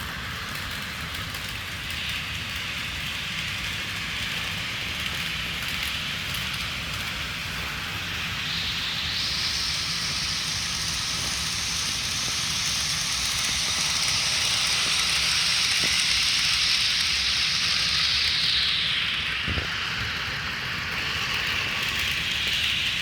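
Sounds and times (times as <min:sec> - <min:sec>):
model locomotive engine sound: 0:00.0 - 0:23.0
model train rolling on track: 0:00.0 - 0:23.0.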